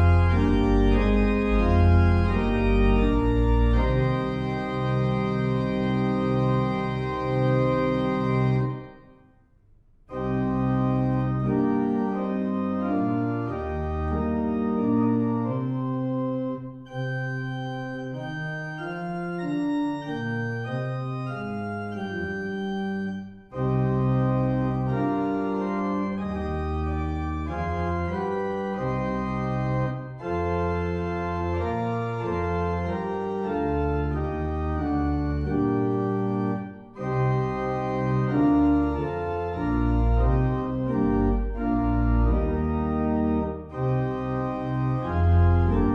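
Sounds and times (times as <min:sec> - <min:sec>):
organ playing a hymn: 0:00.0 - 0:09.2, 0:10.1 - 0:45.9.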